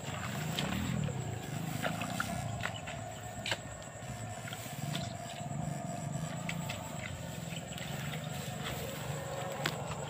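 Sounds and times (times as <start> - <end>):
faint hum: 0.0 - 10.0
water sloshing: 0.0 - 10.0.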